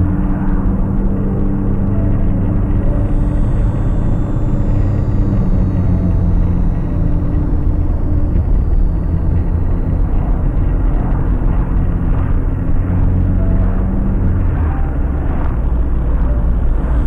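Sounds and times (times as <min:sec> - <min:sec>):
car engine and tyre rumble: 0:00.0 - 0:17.0
faint engine drone: 0:00.0 - 0:17.0.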